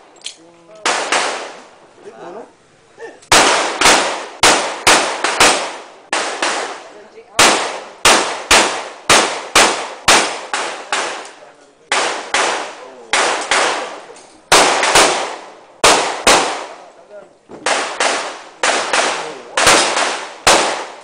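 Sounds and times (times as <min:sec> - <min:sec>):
pistol shots with echo: 0:00.8 - 0:01.6, 0:03.3 - 0:16.9, 0:17.6 - 0:21.0.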